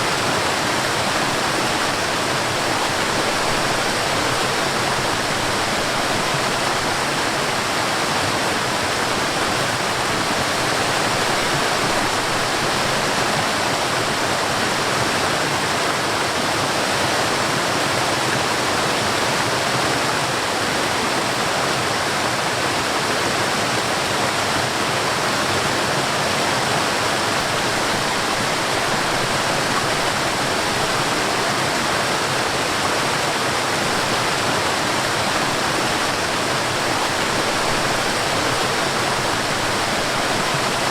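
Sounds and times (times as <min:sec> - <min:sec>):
stream rushing over waterfalls: 0:00.0 - 0:40.9.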